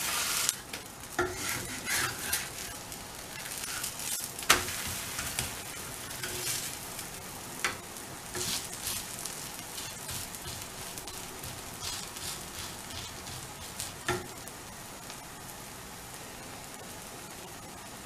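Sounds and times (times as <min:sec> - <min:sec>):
frying hiss with crackles: 0:00.0 - 0:18.0.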